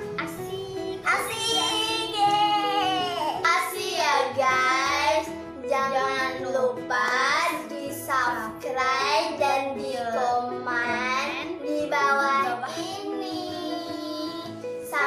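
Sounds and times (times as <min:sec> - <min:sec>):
music: 0:00.0 - 0:15.0
child singing: 0:00.2 - 0:15.0.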